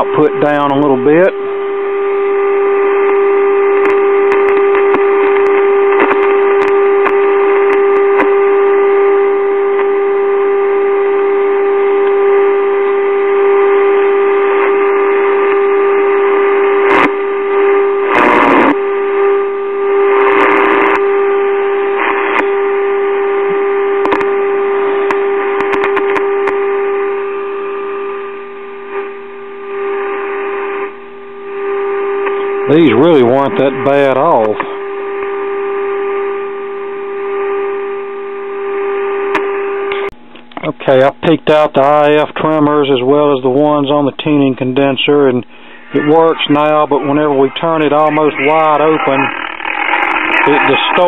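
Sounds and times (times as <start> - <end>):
test tone through loudspeaker: 0.0 - 51.0.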